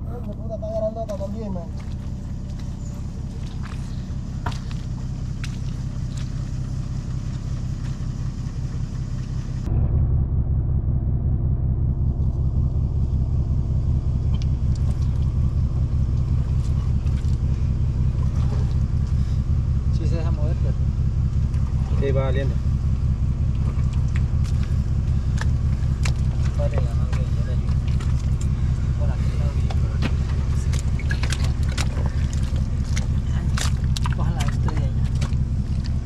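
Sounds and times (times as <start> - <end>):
faint engine knocks: 0.0 - 9.7, 12.2 - 36.0
car engine rumbling: 0.0 - 36.0.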